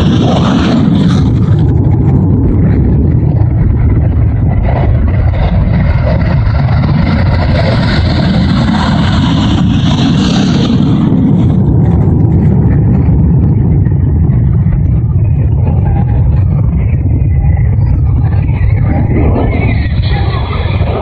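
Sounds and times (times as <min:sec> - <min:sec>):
jet engine low rumble: 0:00.0 - 0:21.0.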